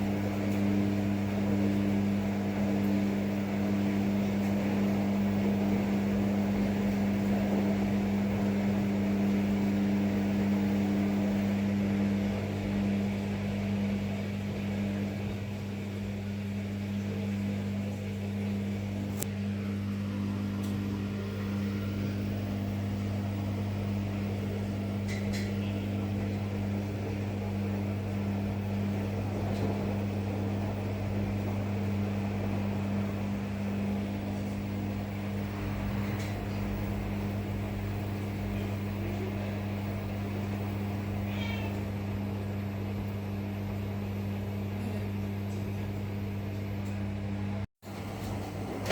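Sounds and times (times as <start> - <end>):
washing machine running: 0.0 - 48.9.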